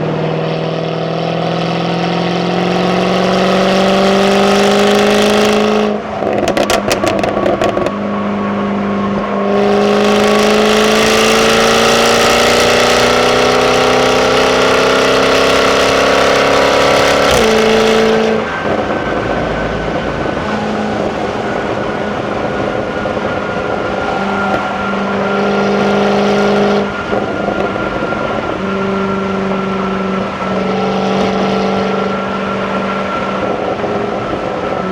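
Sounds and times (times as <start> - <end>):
sports car engine revving: 0.0 - 34.9
exhaust crackling: 2.6 - 34.9.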